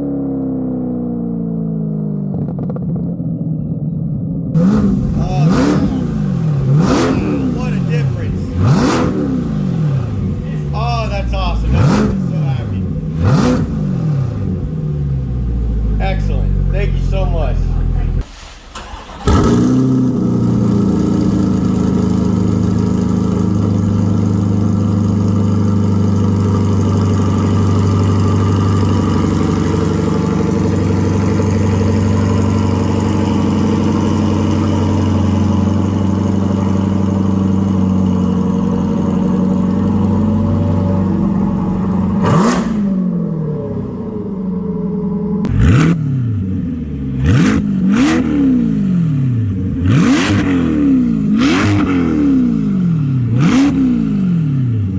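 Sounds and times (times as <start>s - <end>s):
car engine revving: 4.6s - 54.9s.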